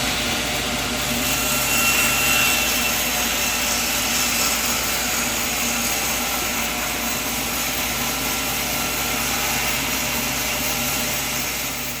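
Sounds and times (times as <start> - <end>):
saw hissing: 0.0 - 11.9
sawmill motor drone: 0.0 - 12.0.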